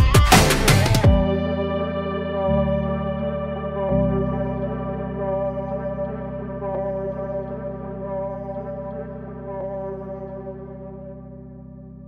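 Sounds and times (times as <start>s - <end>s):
ambient chord: 0.0s - 12.0s
low steady drone: 1.2s - 11.6s.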